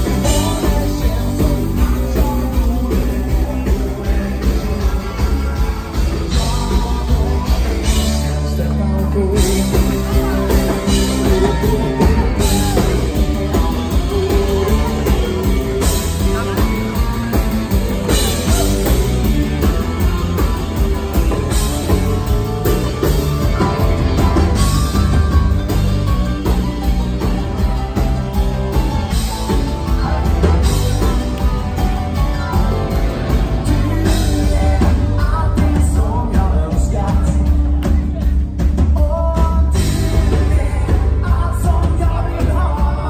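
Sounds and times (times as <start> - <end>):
dance band playing live: 0.0 - 43.0
person singing: 0.0 - 43.0.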